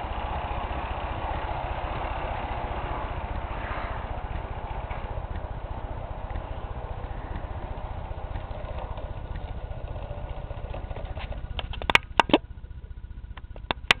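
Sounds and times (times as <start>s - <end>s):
model train rumbling on track: 0.0s - 14.0s.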